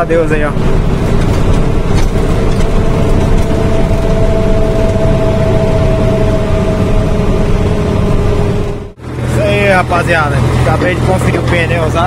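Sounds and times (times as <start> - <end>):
road noise: 0.0 - 12.0
steady whine: 0.0 - 12.0
truck diesel engine rumble: 0.0 - 12.0.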